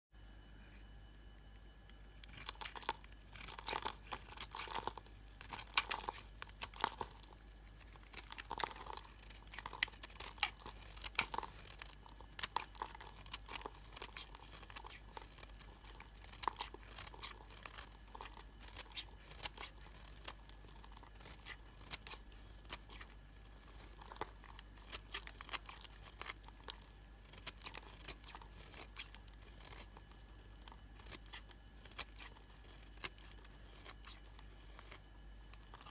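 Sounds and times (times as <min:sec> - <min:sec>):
blade cutting through soap: 0:02.2 - 0:35.9.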